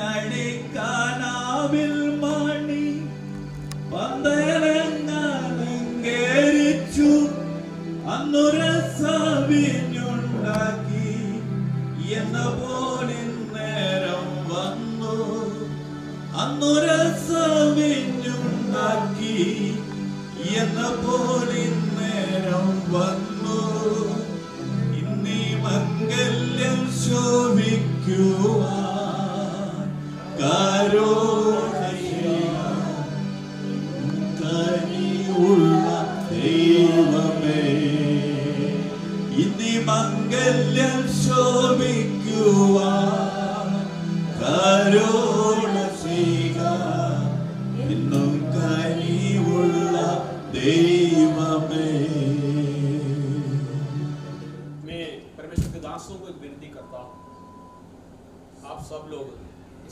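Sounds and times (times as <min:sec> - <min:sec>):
person singing hymn with vibrato: 0:00.0 - 0:54.7
sustained accompanying chords: 0:00.0 - 0:59.9.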